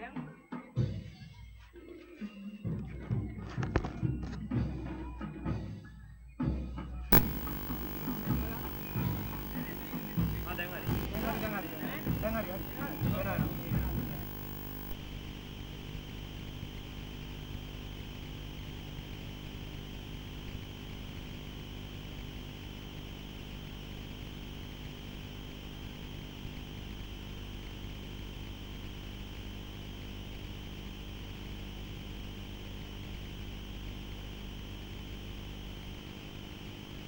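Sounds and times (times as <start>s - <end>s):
constant hiss: 7.1s - 37.0s.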